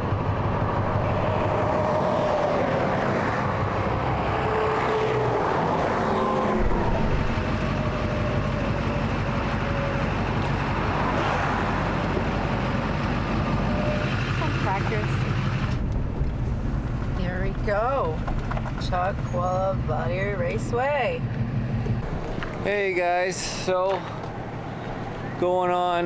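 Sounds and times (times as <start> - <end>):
pickup truck driving: 0.0 - 26.0.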